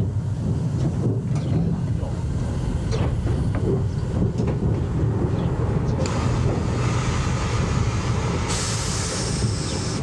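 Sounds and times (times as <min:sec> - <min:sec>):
steam locomotive rumble and hiss: 0:00.0 - 0:10.0.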